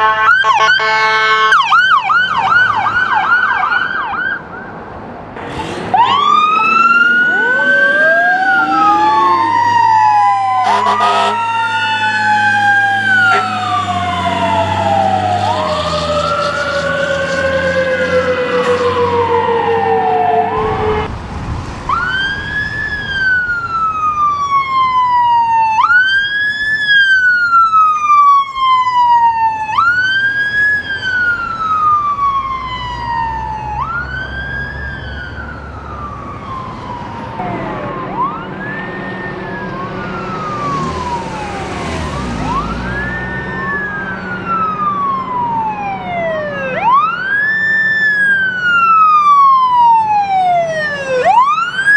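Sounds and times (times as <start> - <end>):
falling siren: 0.0 - 4.8, 5.8 - 51.9
second siren: 0.0 - 4.8, 5.9 - 51.9
wail siren: 0.0 - 4.8, 5.8 - 21.1, 21.8 - 51.9
road noise: 0.0 - 51.9.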